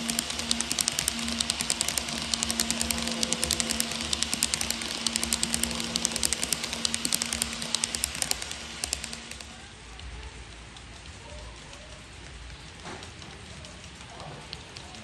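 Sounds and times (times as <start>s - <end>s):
model train motor hum: 0.0s - 15.0s
model train wheels clicking: 0.0s - 15.0s.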